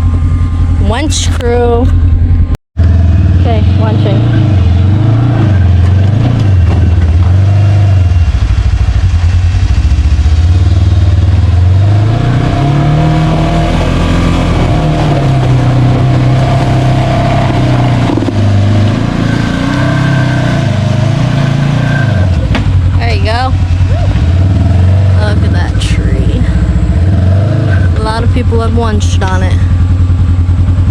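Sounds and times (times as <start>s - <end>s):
utility vehicle engine revving: 0.0s - 30.9s.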